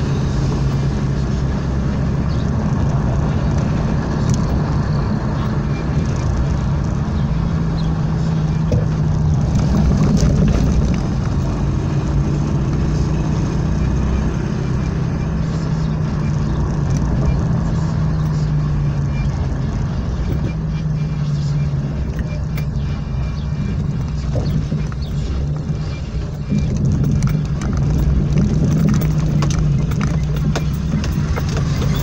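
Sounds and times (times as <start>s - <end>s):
car engine hum: 0.0s - 32.0s
tyre noise: 0.0s - 32.0s.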